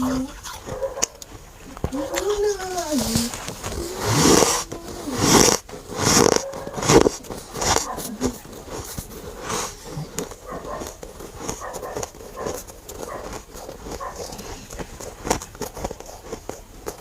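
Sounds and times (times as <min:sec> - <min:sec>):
mouth chewing crunchy frost: 0:00.0 - 0:17.0.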